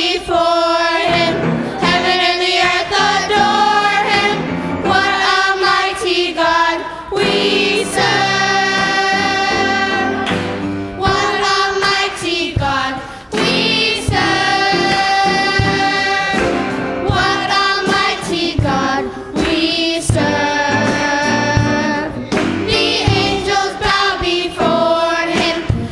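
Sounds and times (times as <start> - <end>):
choir singing: 0.0 - 25.9.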